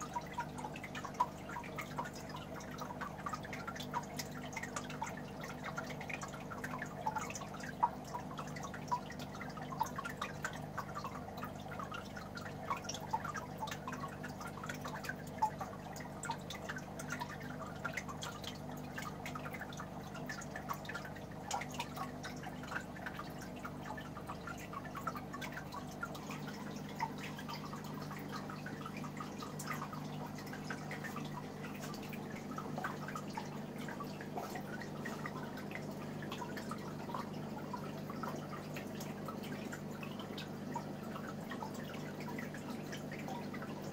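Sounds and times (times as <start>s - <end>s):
tank filter humming: 0.0s - 43.9s
water dripping and splashing: 0.0s - 43.9s.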